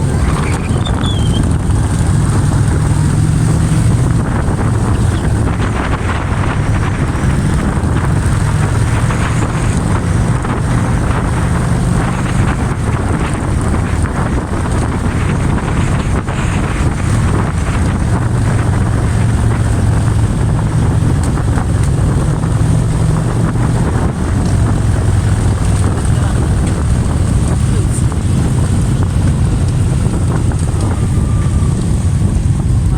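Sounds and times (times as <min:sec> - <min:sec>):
motorcycle engine running: 0:00.0 - 0:32.9
wind noise on microphone: 0:00.0 - 0:32.9.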